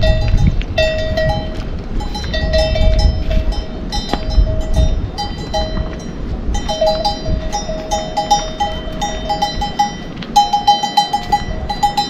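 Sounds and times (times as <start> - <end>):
small metal bells clinking: 0.0 - 12.0.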